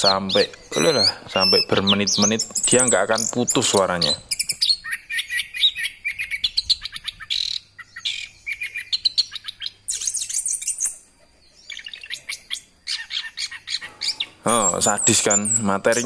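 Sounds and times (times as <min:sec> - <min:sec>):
thrush singing chirps and trills: 0:00.0 - 0:16.0.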